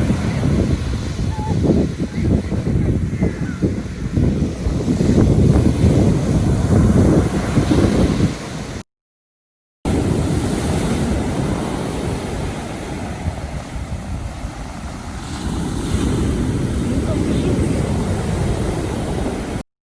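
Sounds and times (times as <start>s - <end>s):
stormy sea surf: 0.0s - 8.8s, 9.9s - 19.6s
wind blowing on microphone: 0.0s - 8.8s, 9.9s - 19.6s.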